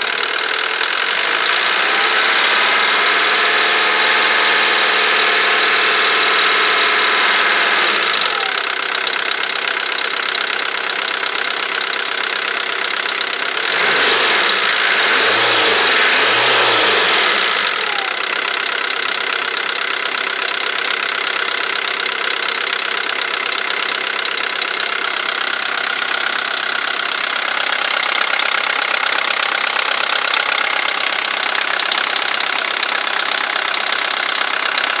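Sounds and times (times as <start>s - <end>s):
diesel engine idling and revving: 0.0s - 35.0s.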